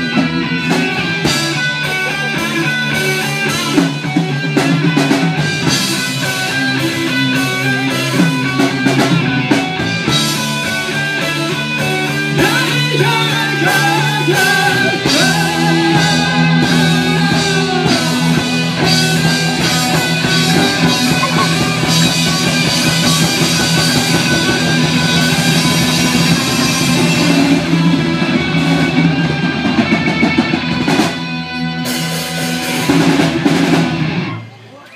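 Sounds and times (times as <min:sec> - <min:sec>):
live rock band playing: 0:00.0 - 0:34.8.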